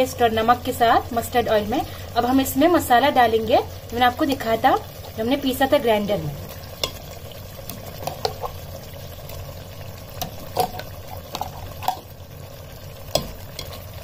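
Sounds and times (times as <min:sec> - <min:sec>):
oil sizzling in pot: 0:00.0 - 0:14.0.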